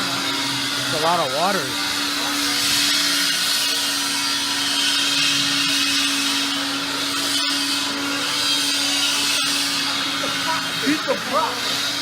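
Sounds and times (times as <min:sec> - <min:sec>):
shop tool motor running: 0:00.0 - 0:12.0.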